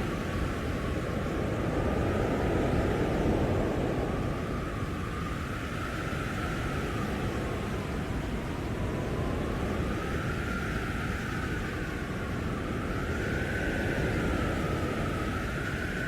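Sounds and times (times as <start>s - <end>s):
blizzard wind gusting: 0.0s - 16.0s
wavering wind howl: 0.0s - 16.0s.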